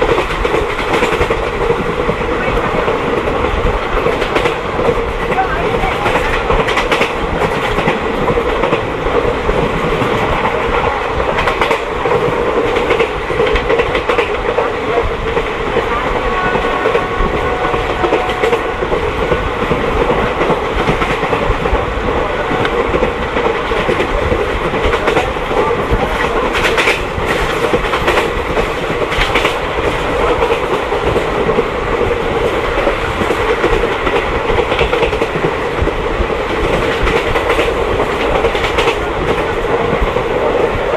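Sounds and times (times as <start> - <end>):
train rumble: 0.0 - 40.9.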